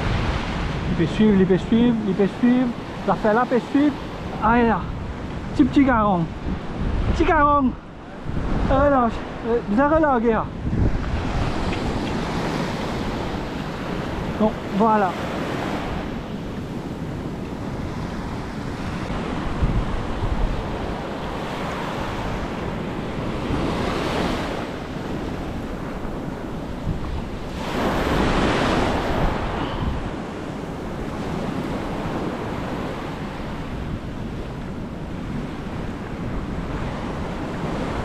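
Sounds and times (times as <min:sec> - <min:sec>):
wind buffeting microphone: 0:00.0 - 0:03.2, 0:03.8 - 0:38.0
small waves breaking on sand: 0:00.0 - 0:38.0.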